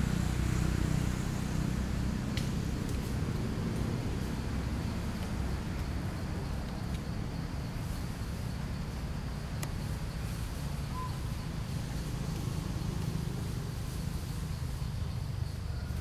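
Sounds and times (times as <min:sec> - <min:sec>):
faint insect hum: 0:00.0 - 0:16.0.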